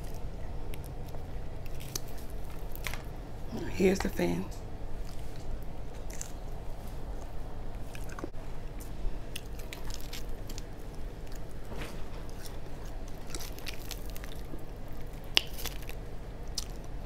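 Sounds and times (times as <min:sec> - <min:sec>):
chewing and biting fried food: 0:00.0 - 0:02.9, 0:05.0 - 0:17.0
low hum: 0:00.0 - 0:17.0.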